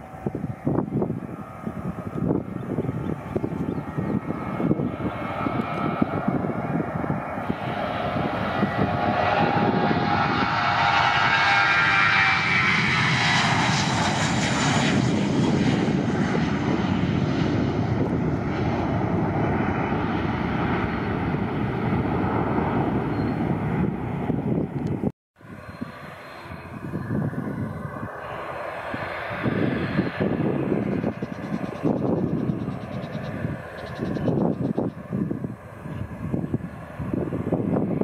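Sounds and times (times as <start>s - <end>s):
jet airliner taking off: 0.0s - 38.0s.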